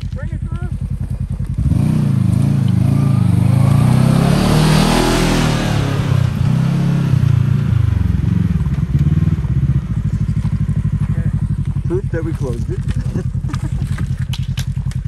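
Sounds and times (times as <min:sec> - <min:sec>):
utility vehicle engine accelerating: 0:00.0 - 0:15.0.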